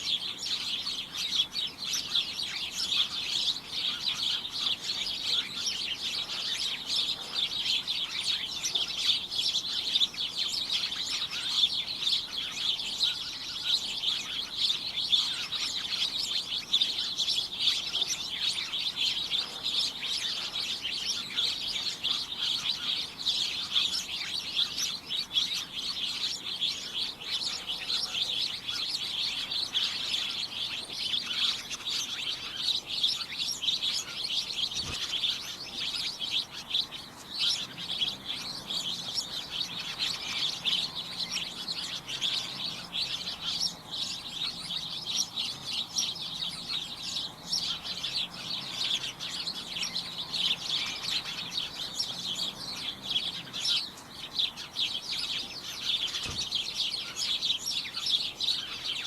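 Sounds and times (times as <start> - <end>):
flock of small birds chirping: 0.0 - 59.0.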